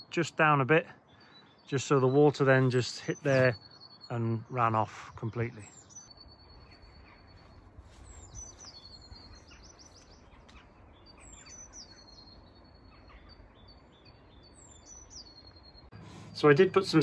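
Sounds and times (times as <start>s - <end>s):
faint songbird whistling: 1.1s - 15.9s.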